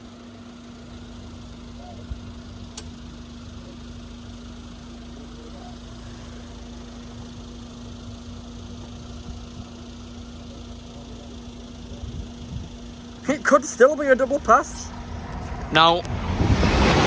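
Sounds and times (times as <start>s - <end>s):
constant low rumble: 0.0s - 17.0s
steady low hum: 0.0s - 17.0s.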